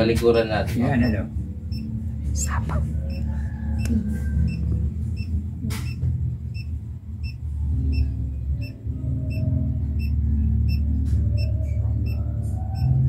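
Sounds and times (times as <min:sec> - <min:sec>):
faint electronic beeps: 0:00.6 - 0:13.0.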